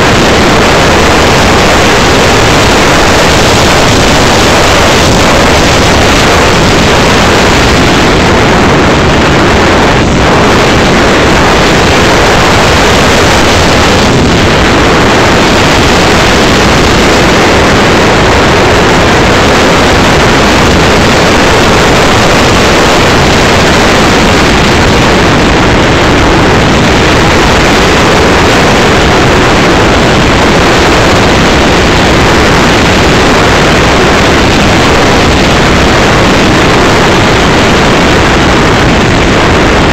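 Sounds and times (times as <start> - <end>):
model jet air rush and motor: 0.0 - 39.9.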